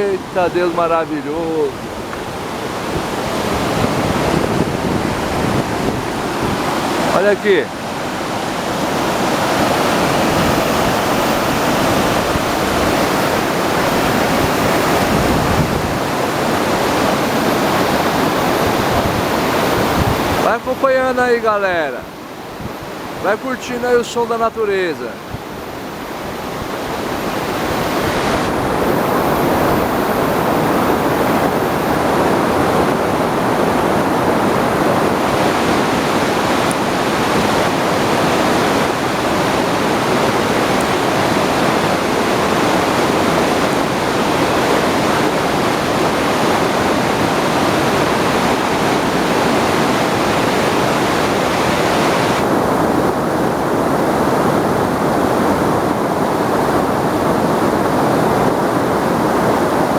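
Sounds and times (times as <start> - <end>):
waterfall and rapids rushing: 0.0 - 59.9.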